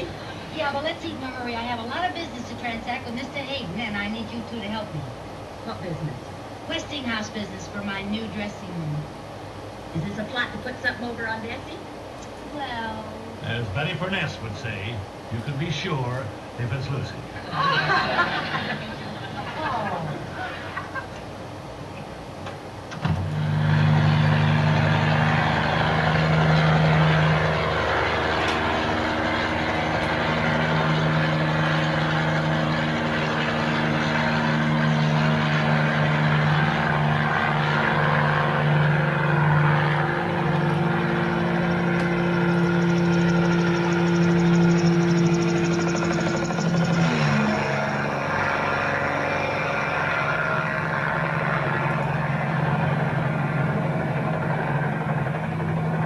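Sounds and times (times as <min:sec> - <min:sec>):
helicopter engine and rotor: 0:00.0 - 0:12.7, 0:22.6 - 0:56.0.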